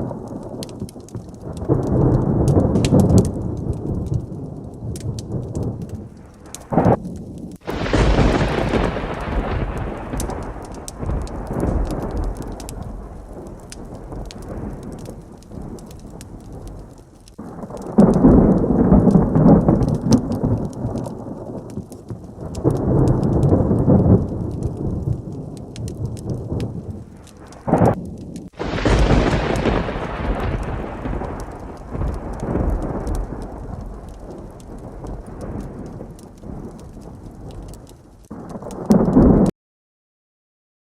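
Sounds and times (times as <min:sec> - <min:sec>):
rain ticking: 0:00.0 - 0:39.5
rolling thunder: 0:00.0 - 0:39.5
sharp thunderclap: 0:00.0 - 0:39.5.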